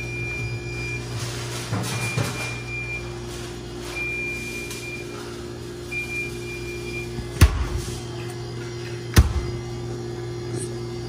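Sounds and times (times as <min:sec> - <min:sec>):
refrigerator compressor humming: 0:00.0 - 0:11.0.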